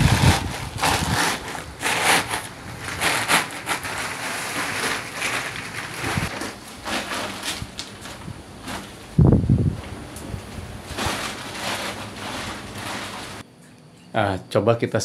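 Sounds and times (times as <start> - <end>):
strong gusting wind: 0.0 - 6.4, 7.4 - 13.4.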